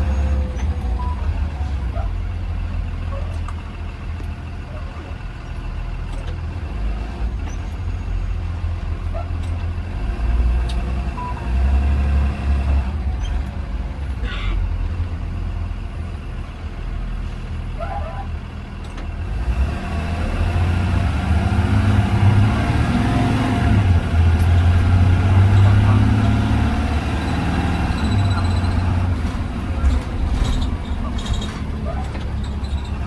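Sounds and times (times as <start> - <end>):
bus engine and road drone: 0.0 - 33.0.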